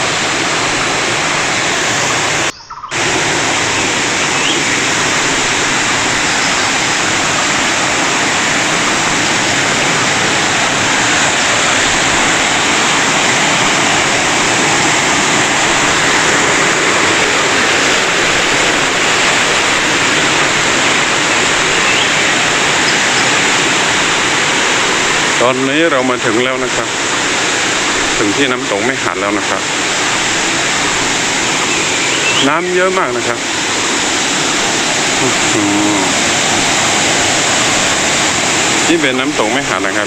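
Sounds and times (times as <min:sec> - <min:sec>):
rocky stream flowing: 0:00.0 - 0:40.0
waterfall rushing: 0:00.0 - 0:40.0.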